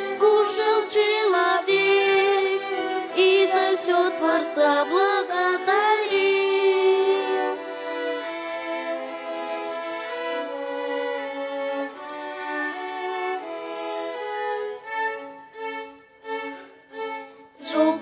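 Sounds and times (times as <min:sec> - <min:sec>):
violin ensemble playing: 0:00.0 - 0:18.0.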